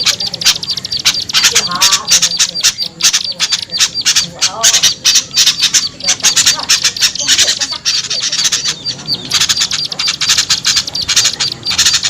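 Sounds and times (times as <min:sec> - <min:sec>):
songbirds chattering: 0:00.0 - 0:12.0.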